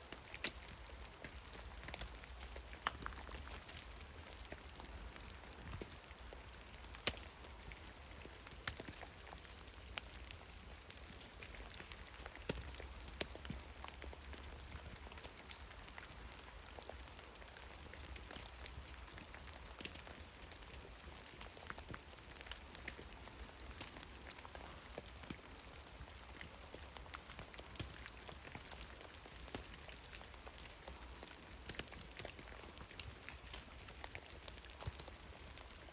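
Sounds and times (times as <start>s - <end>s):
faint steady hiss: 0.0s - 35.9s
water drops on snow: 0.1s - 35.8s.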